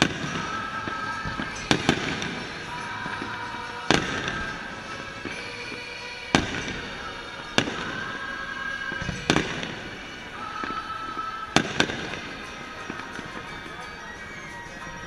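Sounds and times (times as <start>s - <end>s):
fireworks bursting with sharp bangs: 0.0s - 15.0s
music playing: 0.0s - 15.0s.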